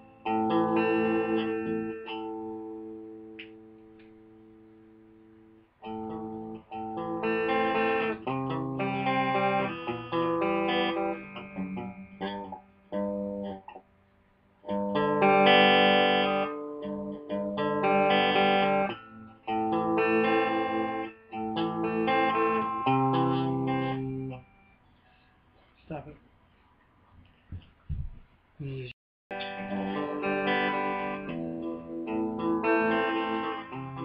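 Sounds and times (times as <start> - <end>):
electric guitar playing: 0.0 - 24.9, 29.3 - 34.0.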